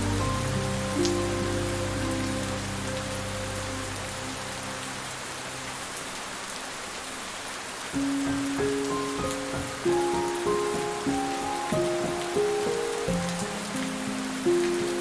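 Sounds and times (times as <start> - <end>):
held piano notes: 0.0 - 5.4, 8.0 - 15.0
steady rain falling: 0.0 - 15.0.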